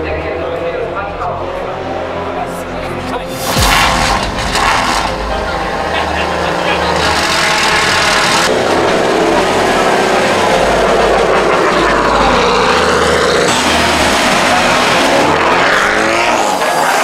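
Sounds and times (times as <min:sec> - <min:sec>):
race car engine revving: 0:01.4 - 0:17.0.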